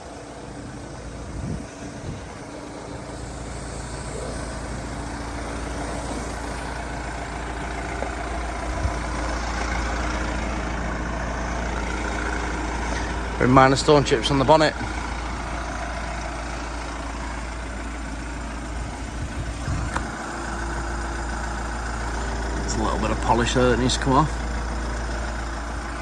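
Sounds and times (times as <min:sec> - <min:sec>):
van engine idling: 0:00.0 - 0:26.0.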